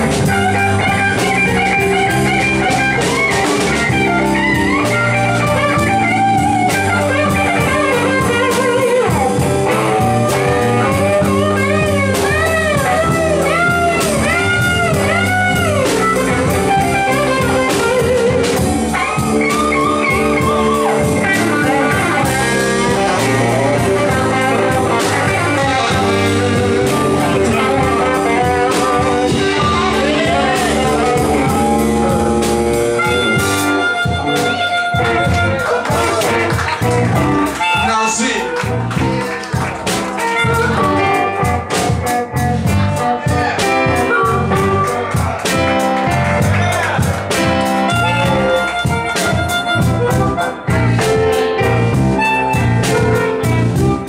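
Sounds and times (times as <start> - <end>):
bass guitar: 0.0 - 54.0
drums: 0.0 - 54.0
electric guitar solo: 0.0 - 54.0.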